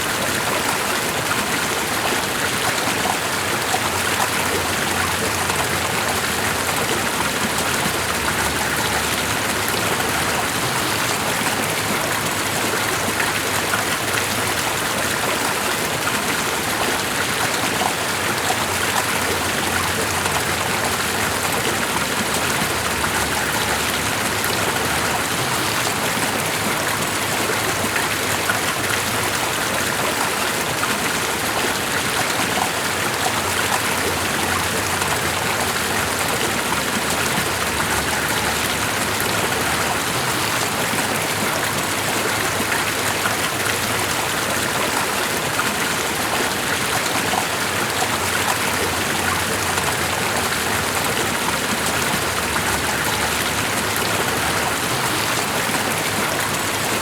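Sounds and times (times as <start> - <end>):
flowing stream rushing: 0.0 - 57.0.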